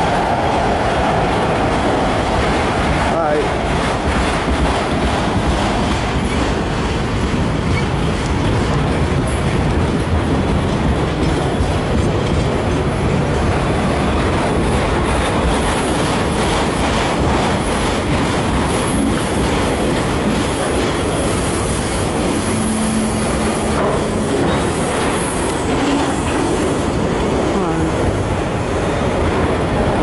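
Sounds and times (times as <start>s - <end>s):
train wheels rumbling over rail joints: 0.0s - 30.0s.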